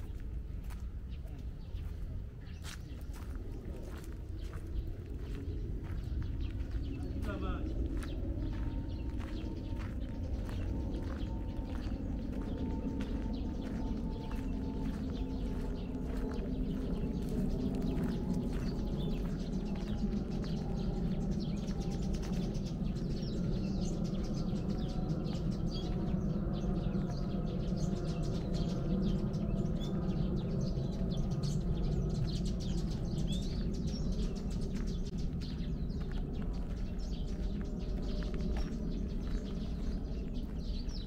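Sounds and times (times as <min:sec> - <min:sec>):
footsteps on dirt path: 0:00.0 - 0:41.0
small birds chirping: 0:00.0 - 0:41.0.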